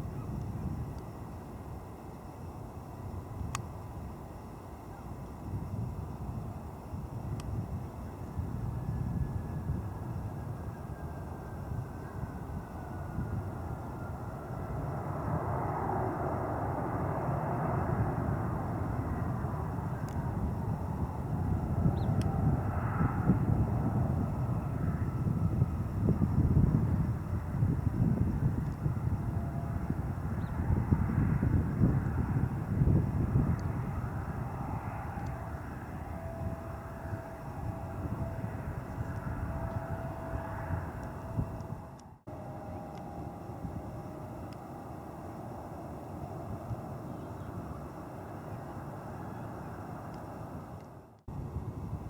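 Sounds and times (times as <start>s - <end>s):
faint falling engine whine: 0.0s - 52.0s
jet engines rumbling: 0.0s - 52.0s.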